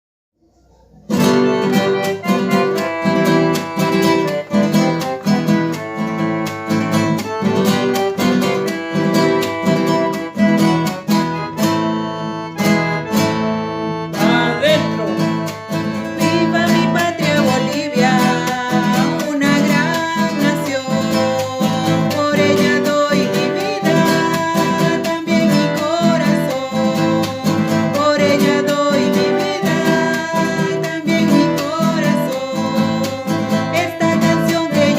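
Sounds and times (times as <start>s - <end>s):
person singing: 0.4s - 11.5s, 13.2s - 34.9s
strummed acoustic guitar: 0.4s - 34.9s.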